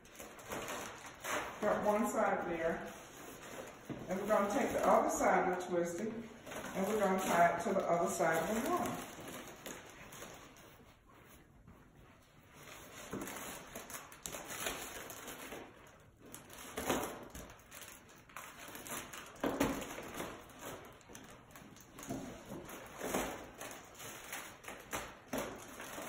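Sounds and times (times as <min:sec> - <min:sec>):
balloons rustling and rubbing: 0:00.0 - 0:26.0.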